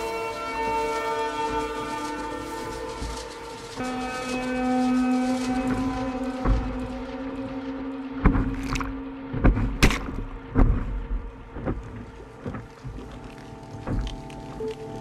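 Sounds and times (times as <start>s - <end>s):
water wash and spray: 0.0s - 15.0s
boat hull slapping waves: 2.5s - 14.8s.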